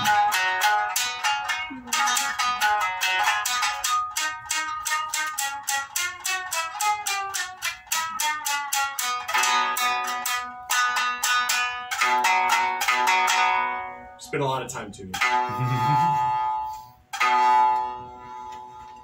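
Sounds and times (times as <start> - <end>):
shamisen plucked notes: 0.0 - 19.0.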